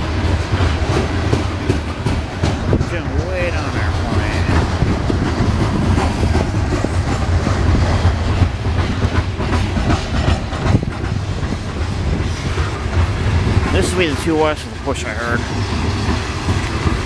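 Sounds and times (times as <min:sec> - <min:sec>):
train cars rumbling past: 0:00.0 - 0:17.0
wheels clacking over rail joints: 0:00.0 - 0:17.0.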